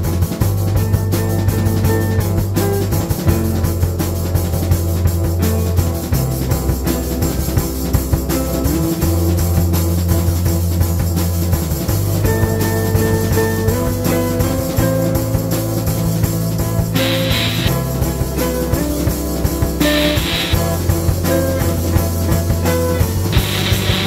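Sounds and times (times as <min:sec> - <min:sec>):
background music with drum beat: 0:00.0 - 0:24.0
held bass notes: 0:00.0 - 0:24.0.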